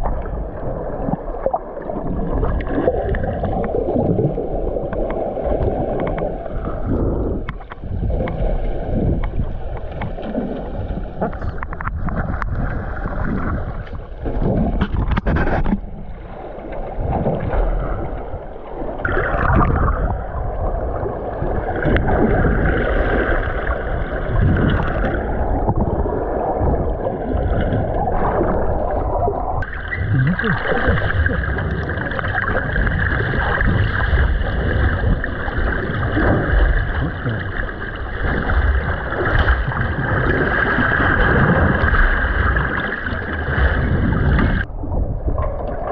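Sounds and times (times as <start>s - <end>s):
low rumble: 0.0s - 45.9s
rush of moving water: 0.0s - 45.9s.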